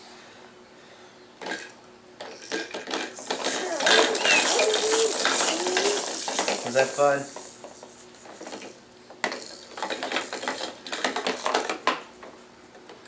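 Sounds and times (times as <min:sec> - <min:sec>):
baby jumper rattling and clattering: 0:01.4 - 0:12.0.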